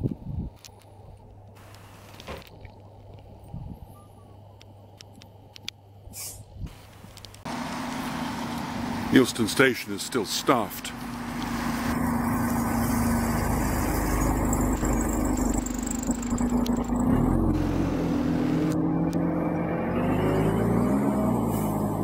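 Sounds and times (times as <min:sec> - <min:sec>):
vehicle engine humming: 0:00.8 - 0:22.0.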